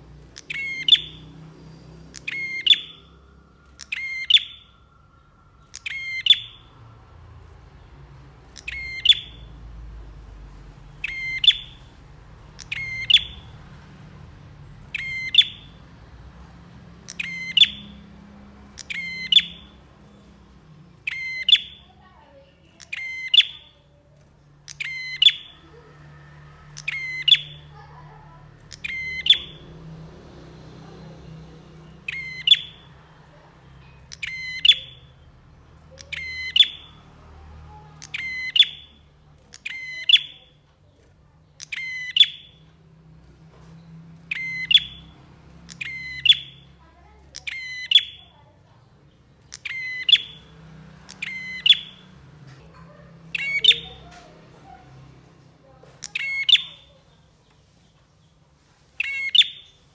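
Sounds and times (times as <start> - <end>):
bird chirping call: 0.1 - 55.1, 55.8 - 58.4, 59.0 - 59.9.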